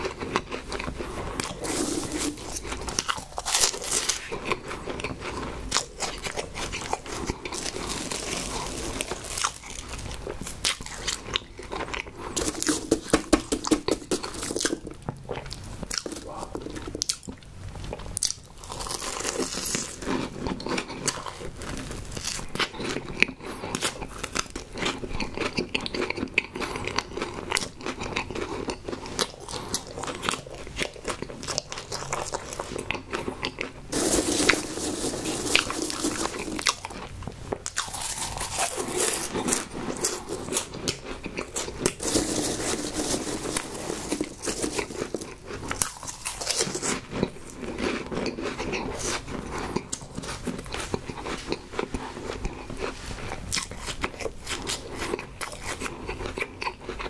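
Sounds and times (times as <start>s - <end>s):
crunchy chewing and mouth sounds: 0.0s - 57.0s.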